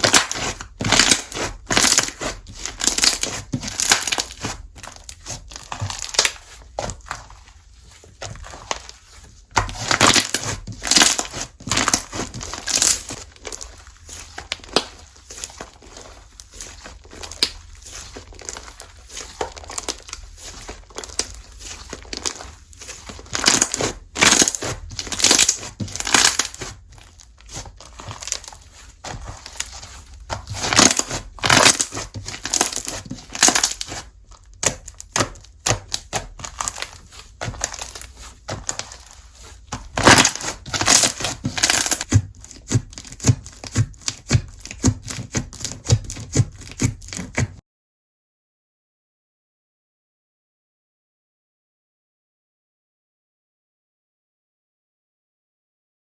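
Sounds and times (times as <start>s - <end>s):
slime crackling and squishing: 0.0s - 47.6s.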